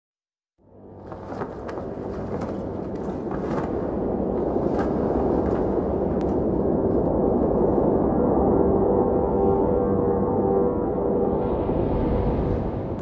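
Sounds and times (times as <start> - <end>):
ambient music: 0.6 - 13.0
low rumbling drone: 0.6 - 13.0.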